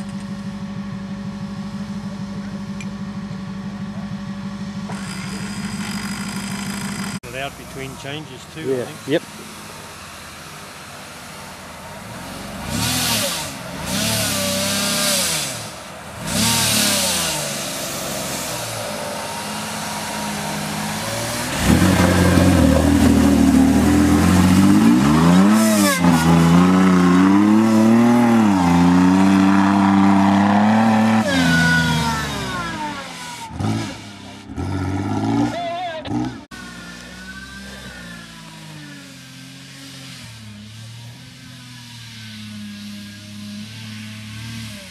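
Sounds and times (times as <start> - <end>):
truck engine revving: 4.8 - 44.9.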